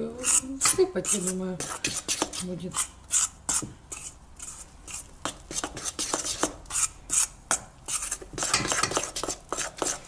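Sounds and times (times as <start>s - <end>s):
spoon scraping dough in metal bowl: 0.0s - 10.0s.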